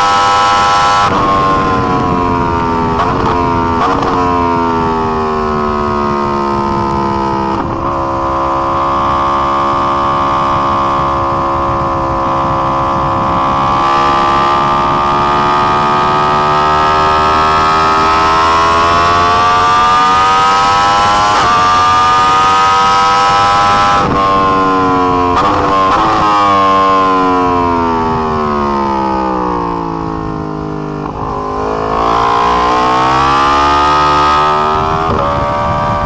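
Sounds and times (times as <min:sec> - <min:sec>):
motorcycle engine at high revs: 0:00.0 - 0:36.0.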